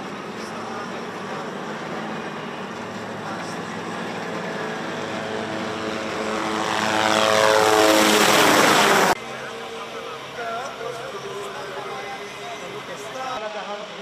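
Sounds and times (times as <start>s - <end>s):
heavy engine passing: 0.0s - 13.7s.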